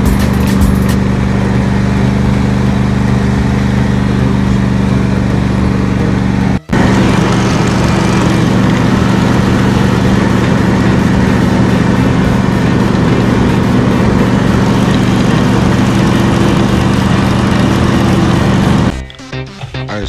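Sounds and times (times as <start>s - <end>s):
riding mower engine running: 0.0s - 19.5s.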